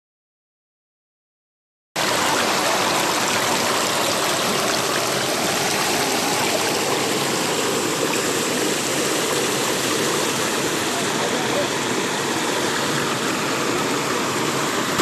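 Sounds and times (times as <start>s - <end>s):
river water rushing over rocks: 2.0s - 15.0s.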